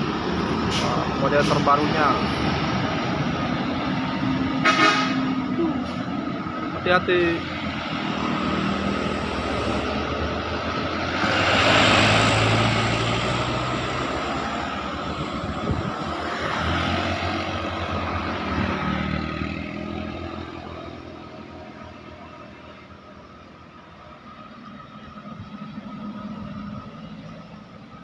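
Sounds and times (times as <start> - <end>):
heavy vehicles driving past: 0.0 - 28.0
road noise: 0.0 - 28.0.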